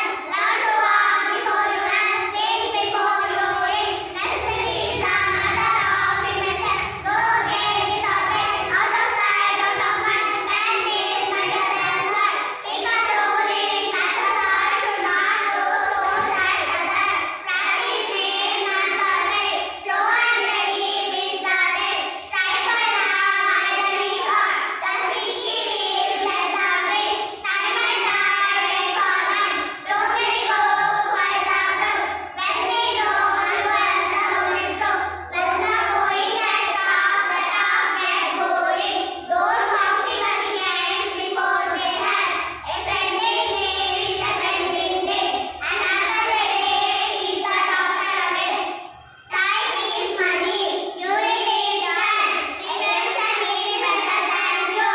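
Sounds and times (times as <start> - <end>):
girls singing in unison: 0.0 - 54.9.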